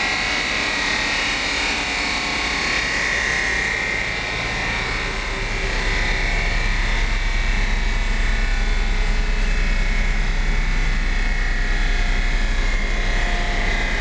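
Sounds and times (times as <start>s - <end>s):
loud steady engine drone: 0.0s - 14.0s.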